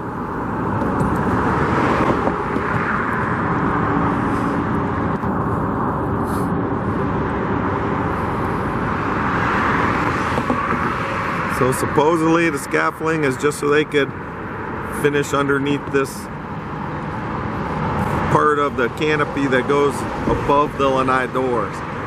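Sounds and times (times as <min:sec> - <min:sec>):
road traffic rushing by: 0:00.0 - 0:22.0.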